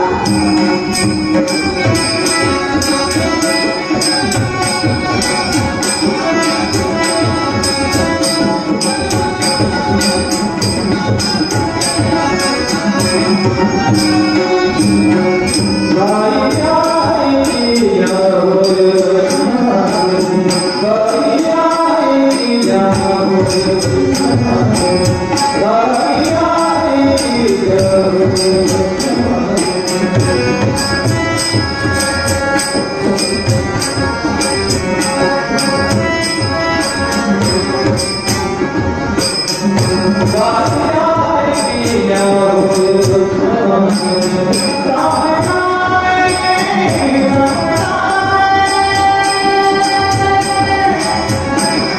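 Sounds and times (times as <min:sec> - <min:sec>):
harmonium playing: 0:00.0 - 0:51.9.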